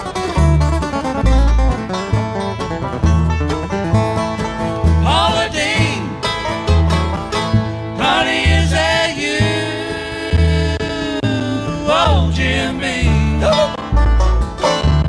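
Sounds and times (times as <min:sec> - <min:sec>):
banjo: 0:00.0 - 0:15.0
bluegrass band playing: 0:00.0 - 0:15.0.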